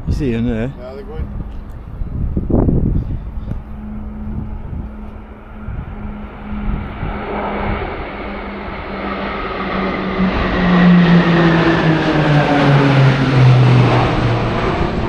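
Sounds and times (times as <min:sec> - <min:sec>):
traffic road noise: 0:00.0 - 0:15.0
vehicle engine humming: 0:00.0 - 0:15.0.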